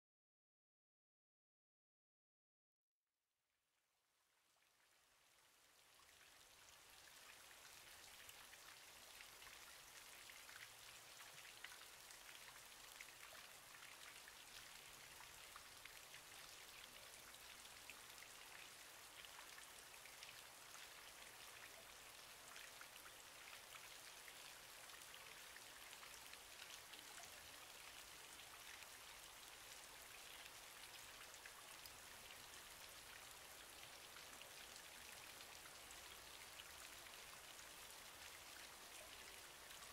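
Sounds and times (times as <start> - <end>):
faint steady rain: 3.8 - 39.9.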